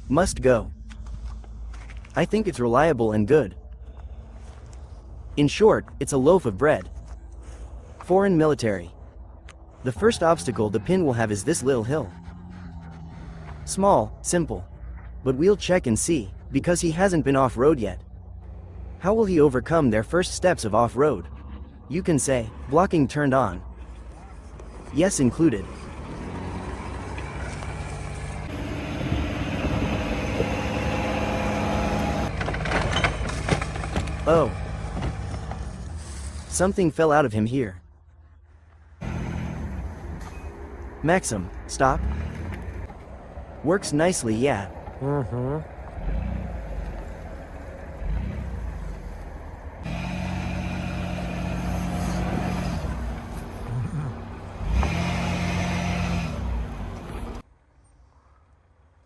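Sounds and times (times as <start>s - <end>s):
truck engine running: 0.0s - 36.5s, 39.0s - 57.4s.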